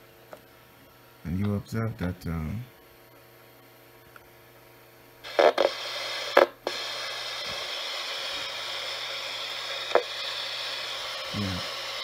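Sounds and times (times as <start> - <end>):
static hiss from small speaker: 1.1 - 12.0.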